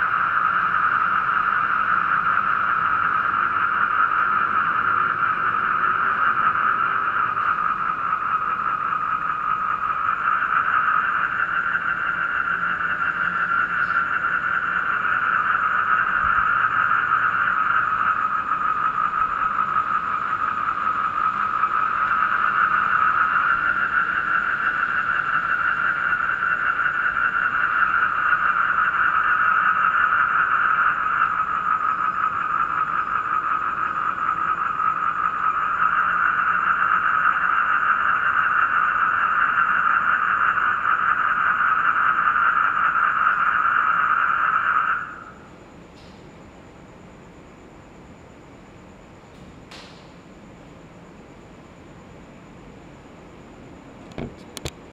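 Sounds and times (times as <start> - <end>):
toads trilling: 0.0 - 46.2
crickets calling: 0.0 - 54.9.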